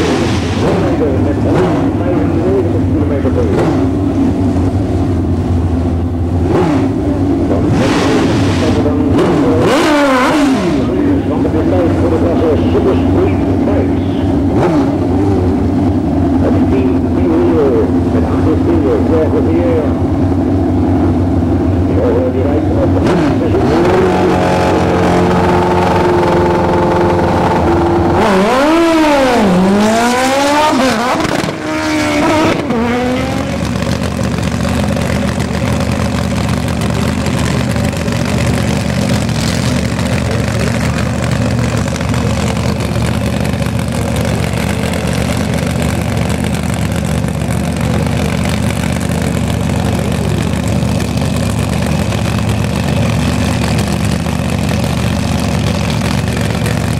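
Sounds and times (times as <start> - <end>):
big car engine idling: 0.0 - 9.6, 10.6 - 23.6, 32.6 - 56.9
motorcycle engine revving: 0.0 - 56.9.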